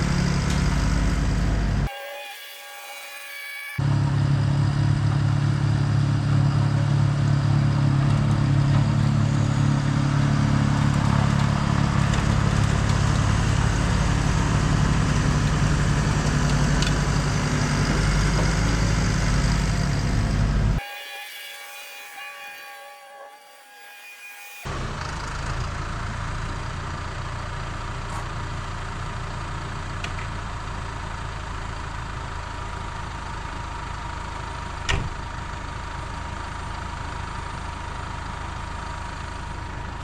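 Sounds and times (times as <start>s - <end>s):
tractor diesel engine running: 0.0s - 1.9s, 3.8s - 20.8s, 24.7s - 40.0s.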